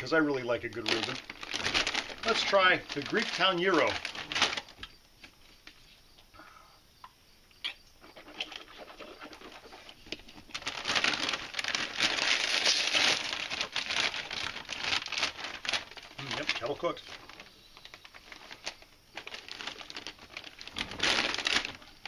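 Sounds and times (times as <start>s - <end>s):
chip bag crinkling: 0.0s - 4.9s, 8.4s - 22.0s.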